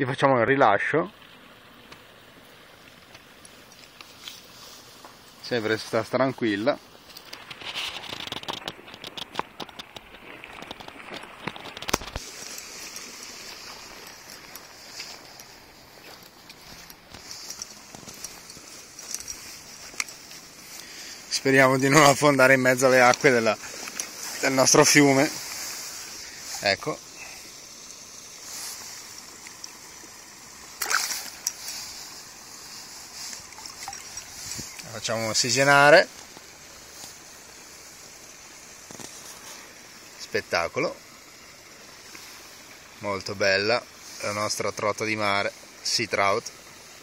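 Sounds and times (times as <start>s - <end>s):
river water hissing: 0.1s - 47.0s
dry reed stalks crackling: 1.1s - 40.4s.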